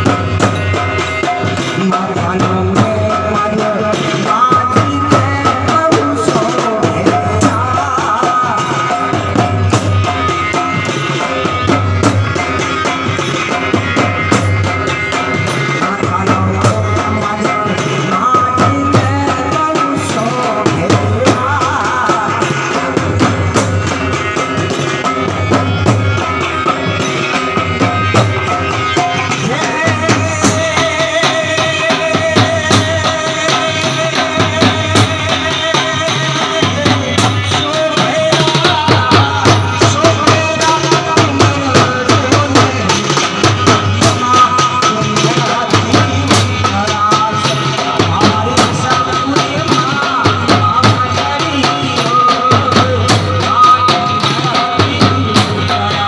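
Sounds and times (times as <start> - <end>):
steady drum beat: 0.0 - 56.0.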